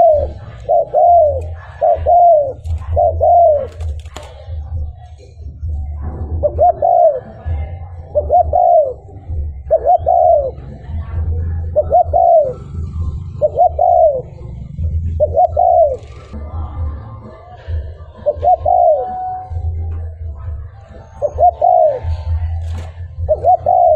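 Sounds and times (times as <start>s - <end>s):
dove cooing: 0.0s - 16.4s, 17.6s - 23.9s.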